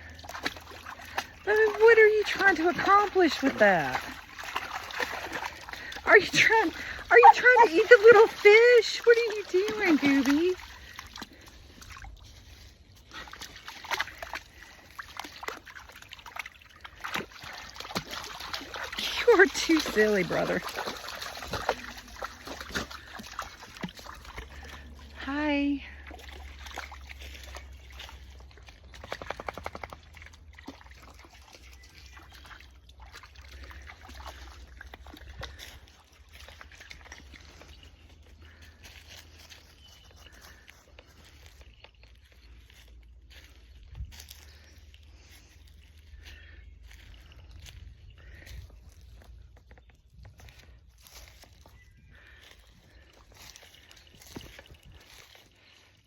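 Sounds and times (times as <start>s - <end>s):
creek water splashing: 0.0s - 56.0s.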